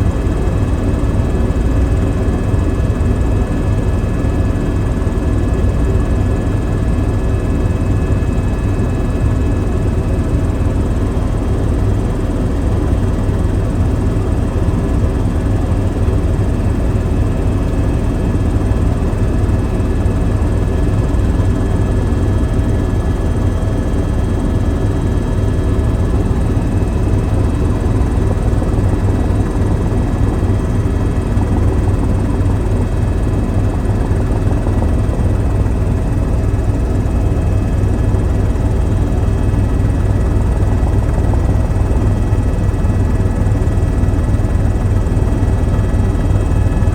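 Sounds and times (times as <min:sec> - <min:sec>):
helicopter rotor and engine drone: 0:00.0 - 0:46.9.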